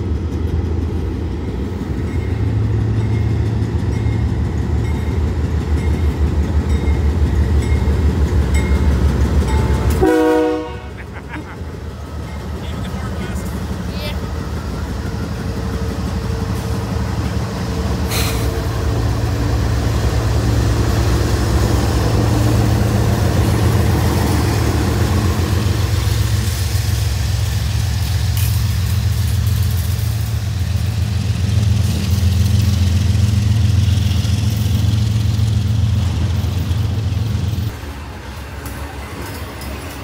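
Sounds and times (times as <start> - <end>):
locomotive engine drone: 0.0 - 40.0
wheel and rail noise: 0.0 - 40.0.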